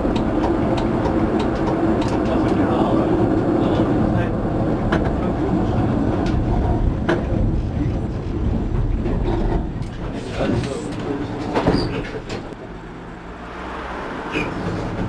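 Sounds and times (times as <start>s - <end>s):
tram wheels rumbling: 0.0s - 12.8s, 13.6s - 15.0s.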